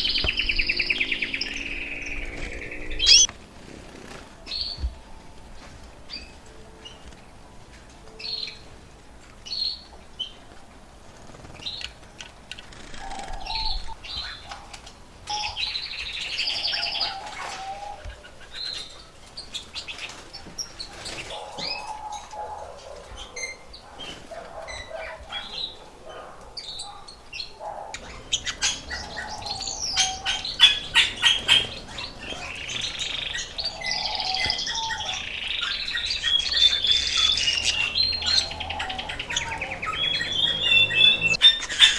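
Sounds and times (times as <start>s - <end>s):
canaries chirping and trilling: 0.0s - 41.9s.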